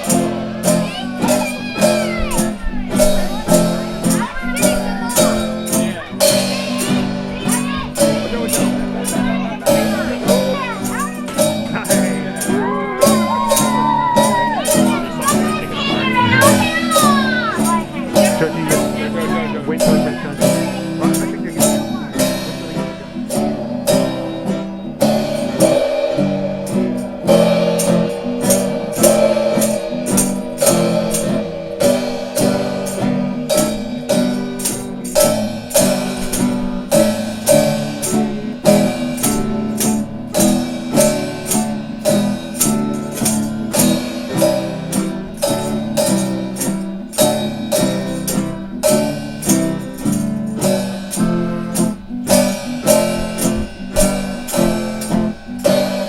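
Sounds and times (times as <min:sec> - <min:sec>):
strummed guitar: 0:00.0 - 0:56.0.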